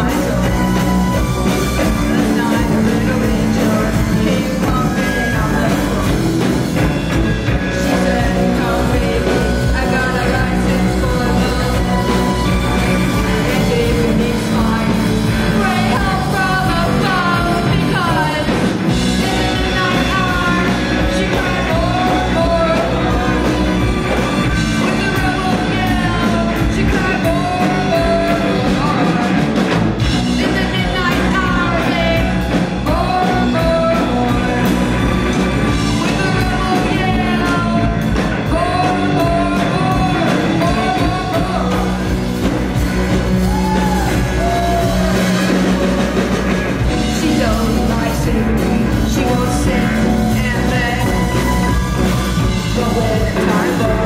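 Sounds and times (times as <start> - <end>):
lead vocalist singing: 0.0 - 54.0
rock band playing live: 0.0 - 54.0.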